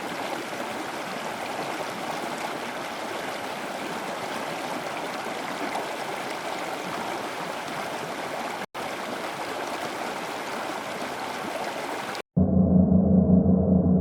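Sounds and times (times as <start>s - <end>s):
stream water flowing: 0.0s - 12.2s.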